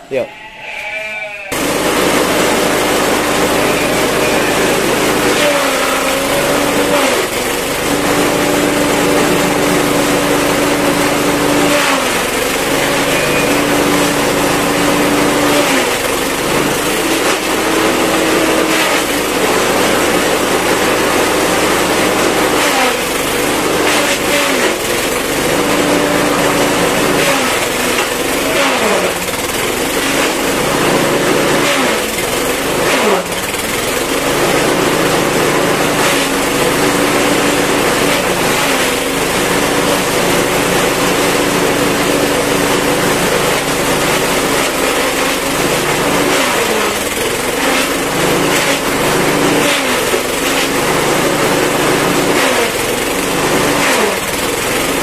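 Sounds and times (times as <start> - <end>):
small engine running: 0.0 - 55.0
blades chopping grass: 1.6 - 55.0.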